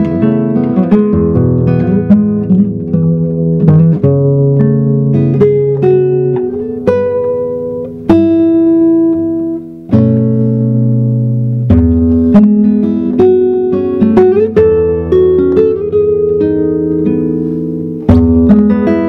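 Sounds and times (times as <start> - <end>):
fingerstyle classical guitar: 0.0 - 19.0.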